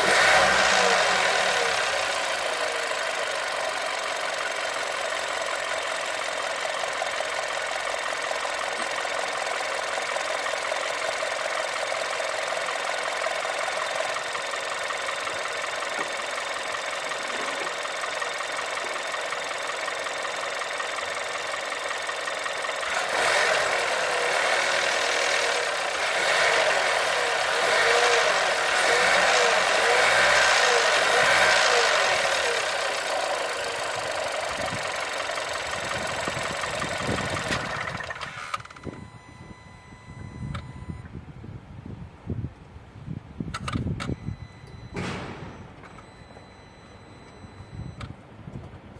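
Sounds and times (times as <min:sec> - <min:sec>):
car engine idling and revving: 0:00.0 - 0:41.1.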